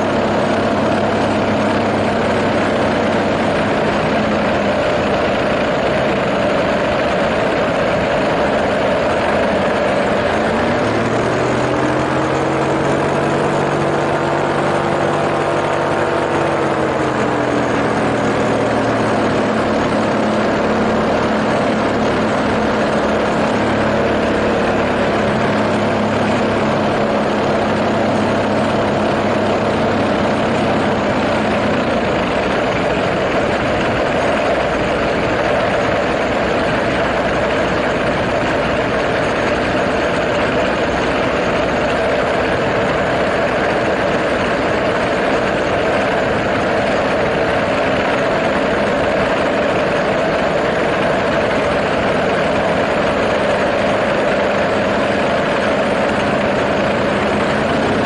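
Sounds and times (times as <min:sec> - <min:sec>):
small drone engine in flight: 0:00.0 - 0:58.0.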